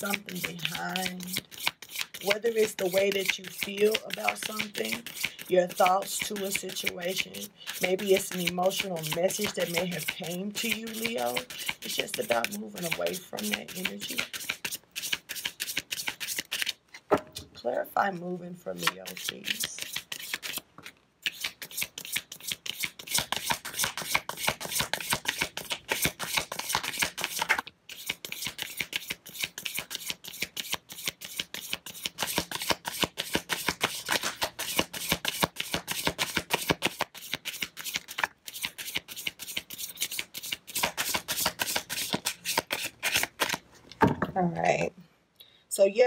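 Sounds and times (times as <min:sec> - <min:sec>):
cards being shuffled: 0:00.0 - 0:17.5, 0:18.8 - 0:44.1.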